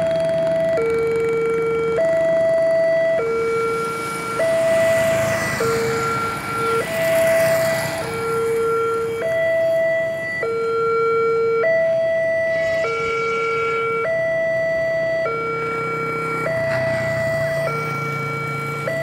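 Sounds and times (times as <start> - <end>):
level-crossing alarm two-tone: 0.0 - 19.0.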